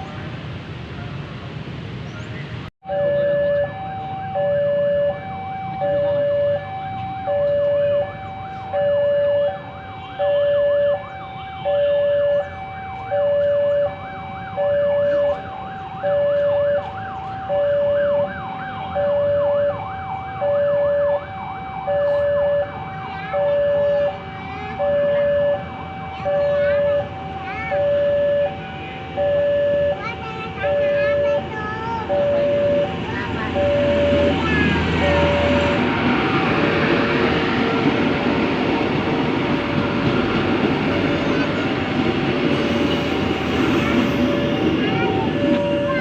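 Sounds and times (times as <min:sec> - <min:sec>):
electronic two-tone warning alarm: 0:02.8 - 0:36.5, 0:42.5 - 0:46.0.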